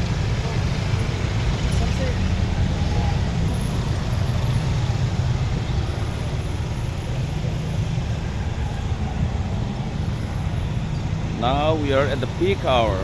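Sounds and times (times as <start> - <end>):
vehicles idling in traffic: 0.0 - 13.0.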